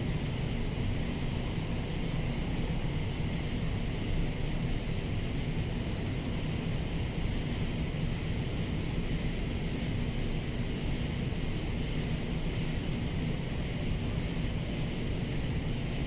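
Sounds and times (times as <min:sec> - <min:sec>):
cicadas droning: 0:00.0 - 0:16.0
constant low rumble: 0:00.0 - 0:16.0.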